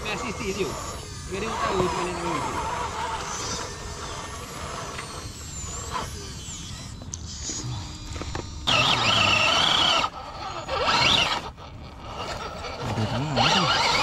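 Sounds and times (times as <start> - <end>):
rc car electric motor whining: 0.0 - 14.0.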